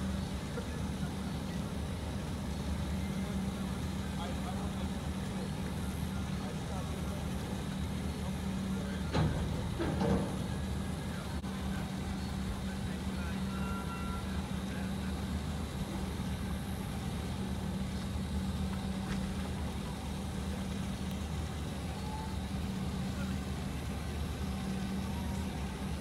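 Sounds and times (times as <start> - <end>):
diesel engines humming: 0.0 - 26.0.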